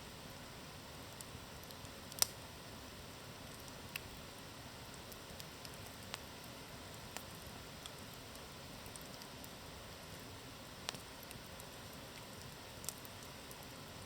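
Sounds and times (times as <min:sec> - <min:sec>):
campfire crackling and popping: 0:01.0 - 0:14.0.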